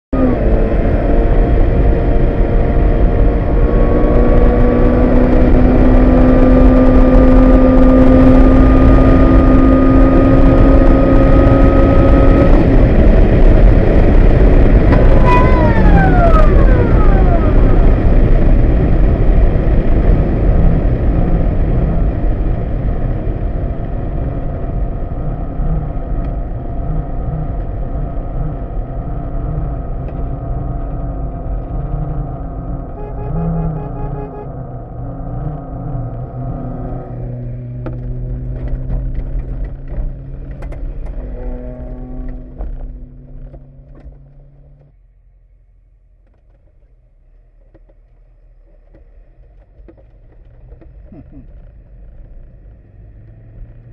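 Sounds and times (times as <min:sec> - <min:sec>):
vehicle engine droning: 0:00.1 - 0:53.9
high whine gliding down: 0:00.2 - 0:45.2.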